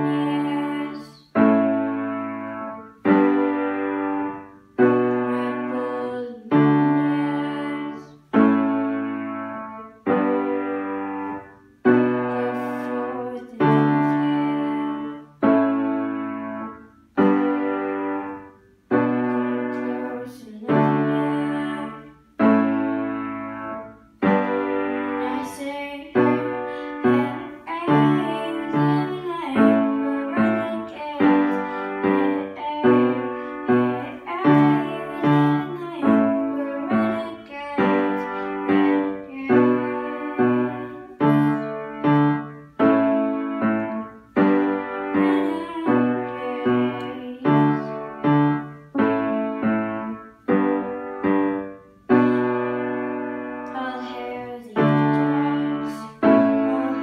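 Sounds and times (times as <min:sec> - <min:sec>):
piano chords: 0:00.0 - 0:57.0.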